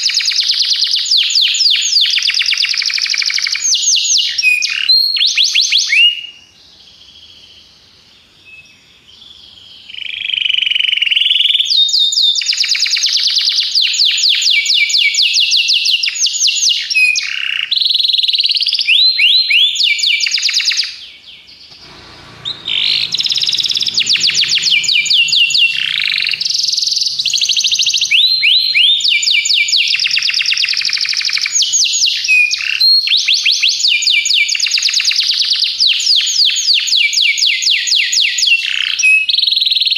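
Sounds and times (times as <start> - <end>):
canary singing trills: 0.0 - 39.3.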